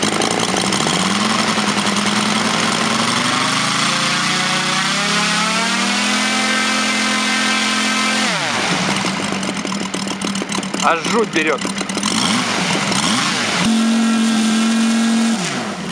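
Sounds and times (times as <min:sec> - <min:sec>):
model aeroplane engine running: 0:00.0 - 0:15.9.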